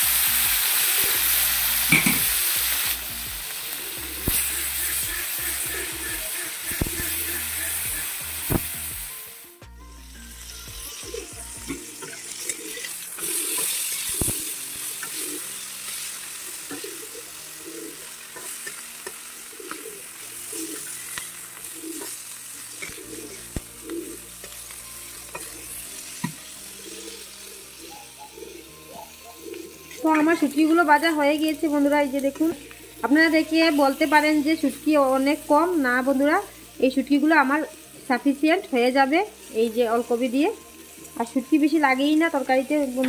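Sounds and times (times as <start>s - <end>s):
fish sizzling in hot oil: 0.0s - 43.0s.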